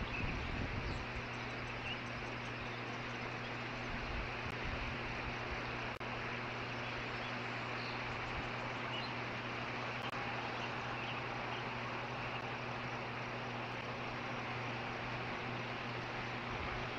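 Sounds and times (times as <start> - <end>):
low electrical hum: 0.0 - 16.9
steady background hiss: 0.0 - 16.9.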